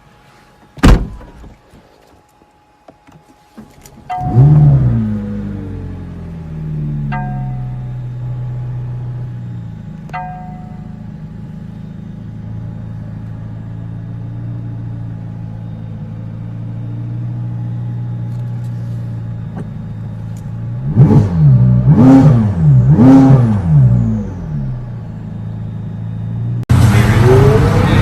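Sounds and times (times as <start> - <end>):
car engine idling and revving: 3.4 - 28.0.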